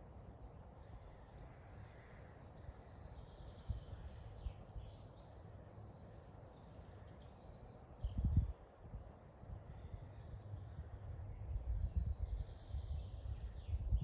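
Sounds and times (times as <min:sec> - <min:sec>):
songbirds chirping and trilling: 0:00.2 - 0:08.6, 0:09.5 - 0:14.0.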